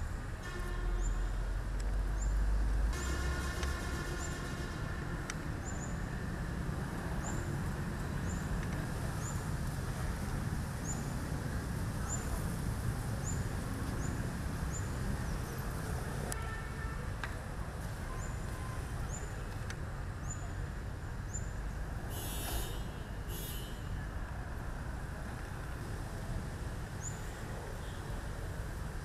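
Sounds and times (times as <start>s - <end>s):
city traffic hum: 0.0s - 29.0s.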